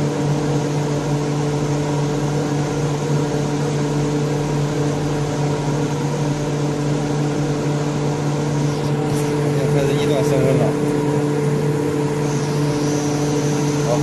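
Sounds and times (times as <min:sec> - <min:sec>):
vacuum pump humming: 0:00.0 - 0:14.0.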